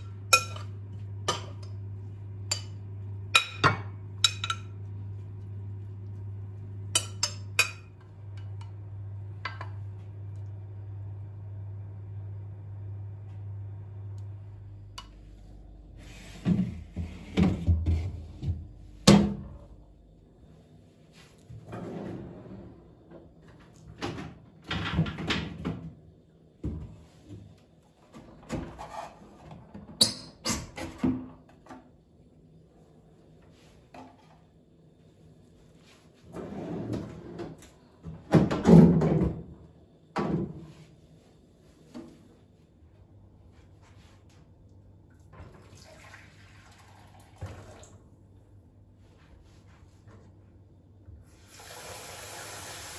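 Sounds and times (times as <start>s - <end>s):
low steady hum: 0.0s - 51.6s.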